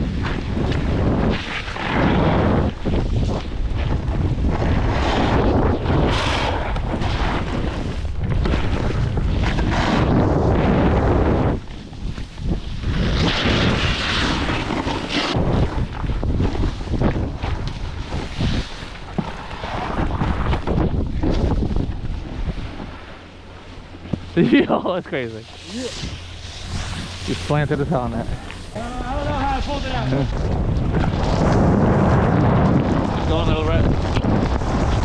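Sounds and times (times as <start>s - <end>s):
snowboard sliding on snow: 0.0s - 35.0s
wind buffeting microphone: 0.0s - 35.0s.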